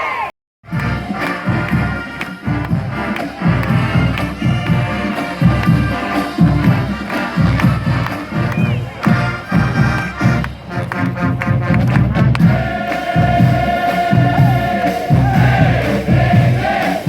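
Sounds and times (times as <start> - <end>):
marching band brass: 0.6 - 17.0
drums and cymbals beat: 0.7 - 17.0.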